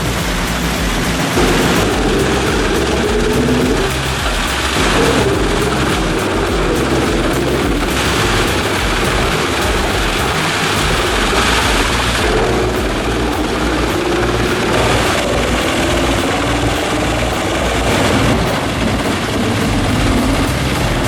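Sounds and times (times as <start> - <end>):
heavy machinery engine running: 0.0 - 21.0.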